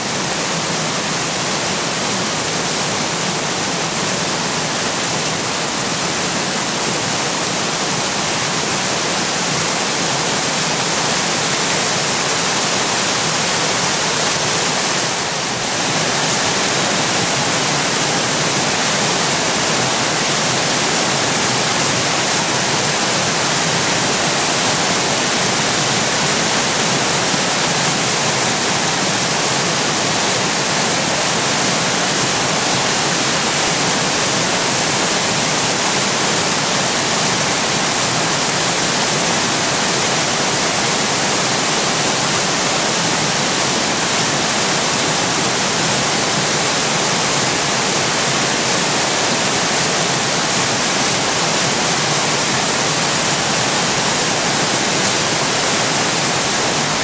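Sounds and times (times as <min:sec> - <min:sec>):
water rushing over weir: 0:00.0 - 0:57.0.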